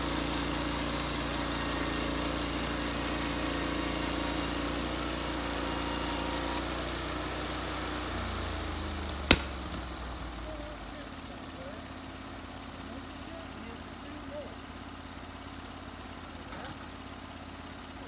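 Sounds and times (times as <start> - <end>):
sawmill engine running: 0.0 - 15.4.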